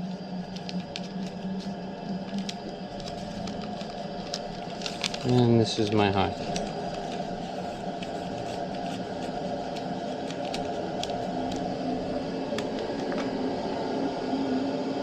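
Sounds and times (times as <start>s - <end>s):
gas boiler burner rushing: 0.0s - 15.0s.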